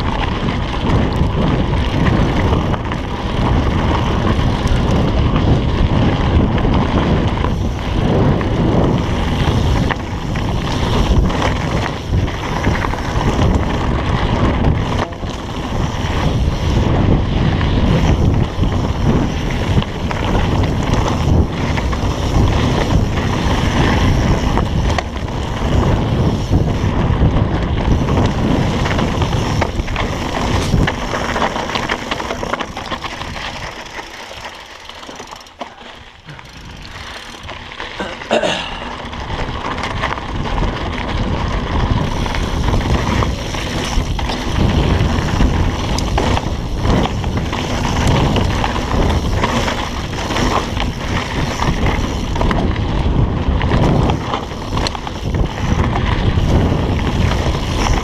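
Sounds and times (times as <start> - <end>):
wind on microphone: 0.0 - 34.0, 35.9 - 58.0
bike rattling on dirt trail: 0.0 - 58.0.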